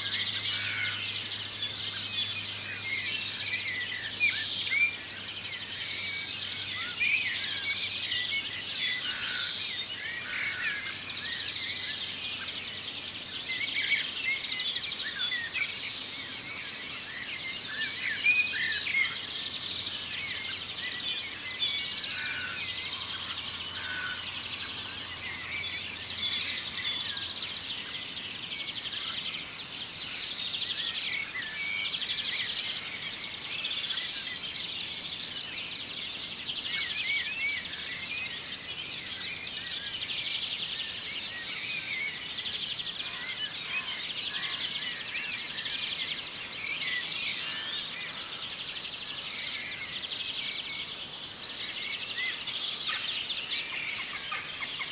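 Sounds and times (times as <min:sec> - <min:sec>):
songbirds dawn chorus: 0:00.0 - 0:54.9.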